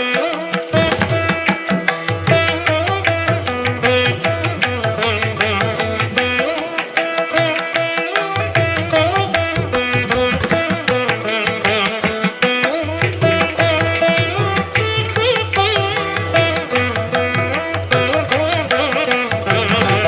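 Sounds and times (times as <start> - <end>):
plucked-string notes: 0.0 - 20.0.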